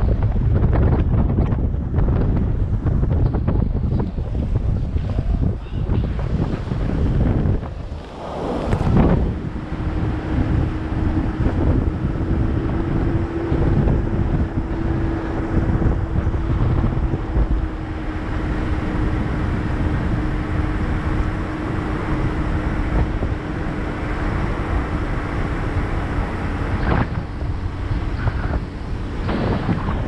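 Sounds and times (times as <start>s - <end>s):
car engine under load: 0.0s - 30.0s
road and wind noise: 0.0s - 30.0s.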